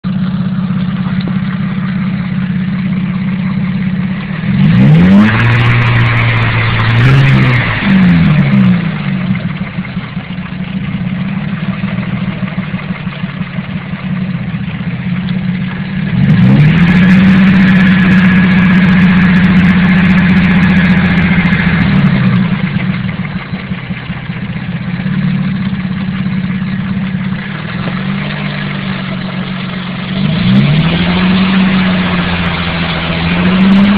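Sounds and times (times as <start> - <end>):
car engine idling with rod knock: 0.0 - 33.9
car engine revving: 0.0 - 33.9.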